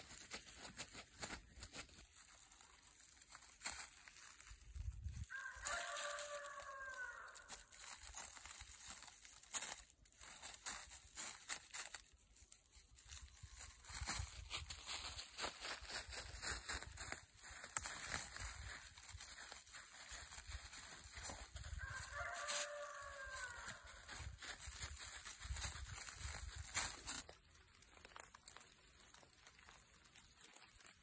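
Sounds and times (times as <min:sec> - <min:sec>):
footsteps in dry leaves: 0:00.0 - 0:31.0.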